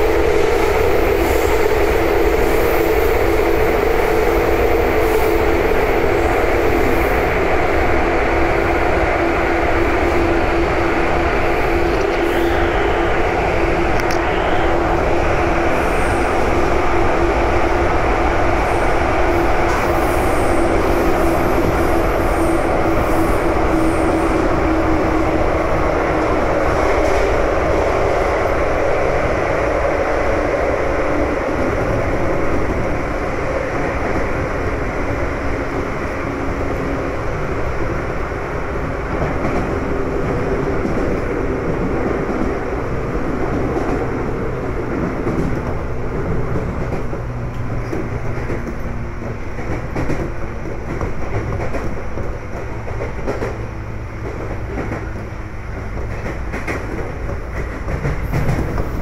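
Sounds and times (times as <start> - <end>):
train rumble and rail noise: 0.0 - 59.0.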